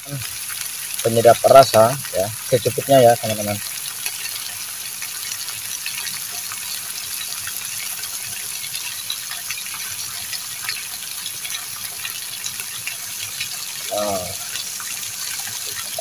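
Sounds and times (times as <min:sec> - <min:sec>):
frying in hot oil: 0:00.0 - 0:16.0
oil crackles and pops: 0:00.0 - 0:16.0.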